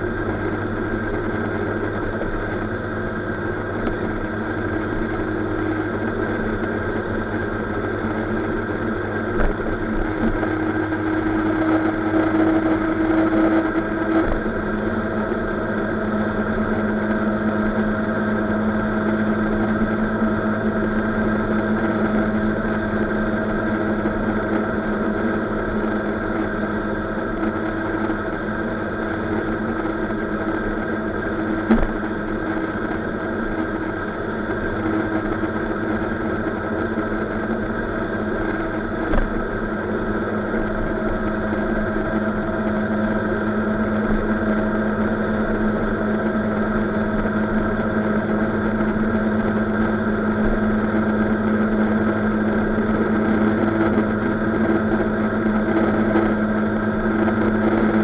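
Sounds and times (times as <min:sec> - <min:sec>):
scooter engine droning: 0:00.0 - 0:58.0
wind and road noise: 0:00.0 - 0:58.0.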